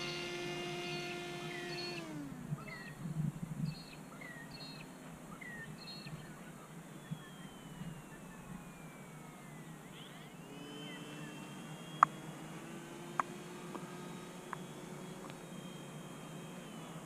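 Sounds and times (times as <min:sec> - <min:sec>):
electric motor whine: 0:00.0 - 0:17.0
small birds chirping: 0:00.0 - 0:17.0.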